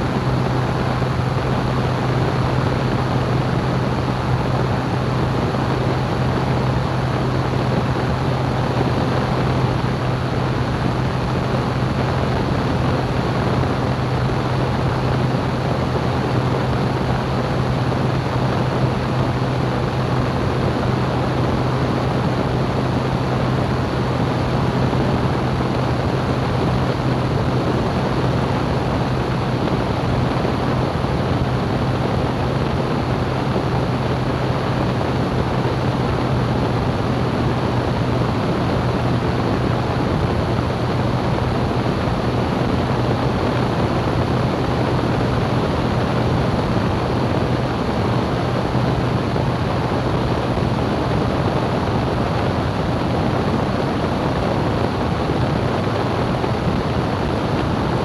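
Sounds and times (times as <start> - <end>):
aircraft engine and propeller drone: 0.0 - 58.0
rushing air noise: 0.0 - 58.0.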